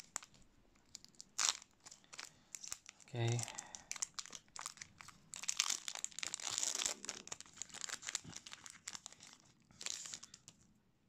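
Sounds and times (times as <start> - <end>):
foil wrapper tearing and crinkling: 0.0 - 0.3, 0.9 - 10.5.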